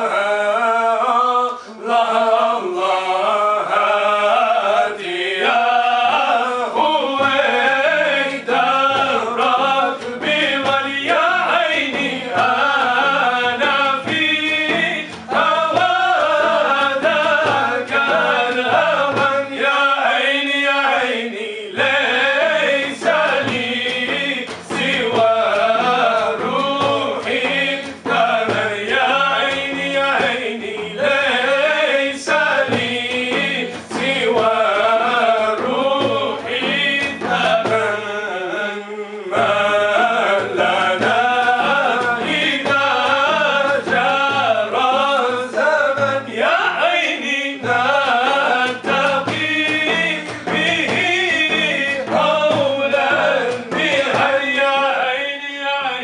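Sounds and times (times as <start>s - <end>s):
men singing devotional song: 0.0s - 56.0s.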